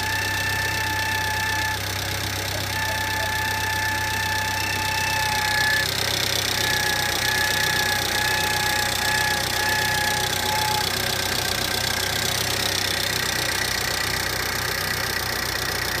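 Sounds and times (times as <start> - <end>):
car engine idling: 0.0 - 16.0
thin high engine whine: 0.0 - 16.0.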